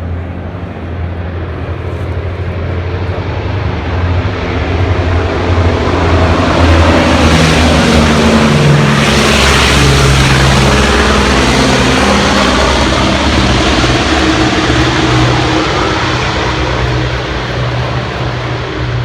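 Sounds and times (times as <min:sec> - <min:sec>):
propeller plane engines overhead: 0:00.0 - 0:19.0.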